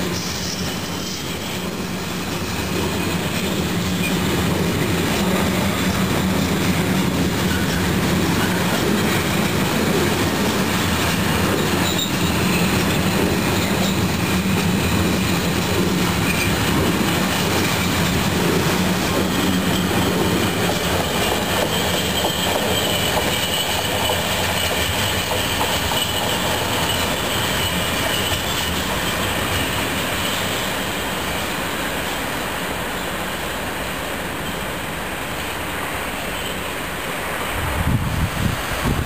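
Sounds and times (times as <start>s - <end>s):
high wheel squeal: 0.0s - 33.4s
train wheels rumbling on rails: 0.0s - 39.0s.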